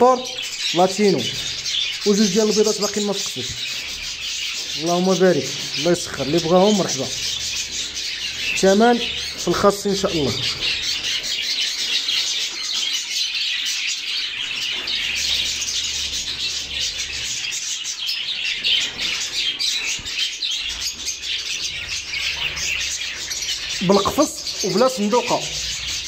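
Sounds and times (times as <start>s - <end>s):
budgerigars chirping: 0.0s - 26.0s.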